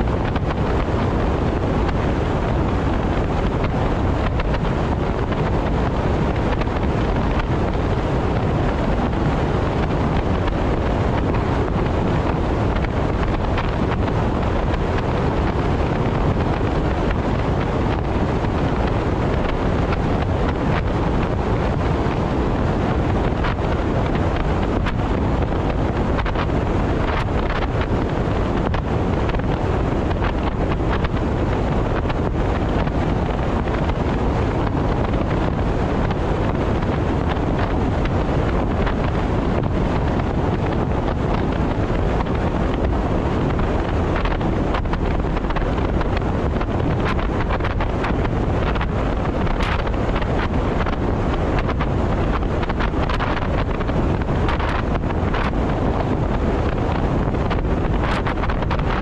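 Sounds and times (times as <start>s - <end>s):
vehicle road and wind noise: 0.0s - 59.0s
wind buffeting microphone: 0.0s - 59.0s.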